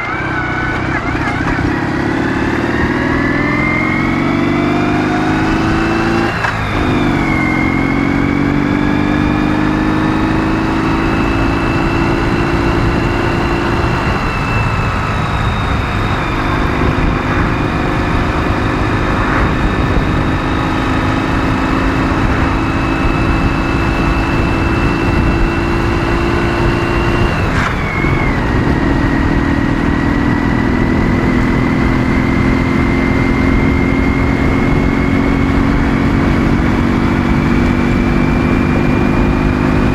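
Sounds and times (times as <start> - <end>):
low rumble of wind and road: 0.0 - 39.9
motorcycle engine at speed: 0.0 - 39.9.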